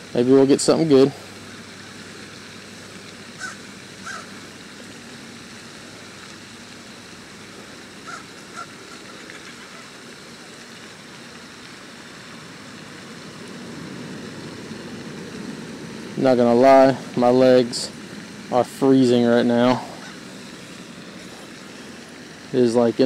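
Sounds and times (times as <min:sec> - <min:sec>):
steady outdoor hiss: 0:00.0 - 0:23.0.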